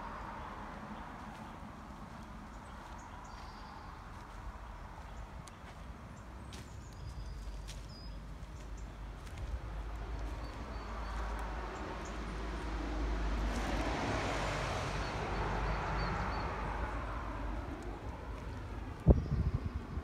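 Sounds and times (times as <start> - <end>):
vehicle passing by: 0.0 - 5.1, 8.6 - 20.0.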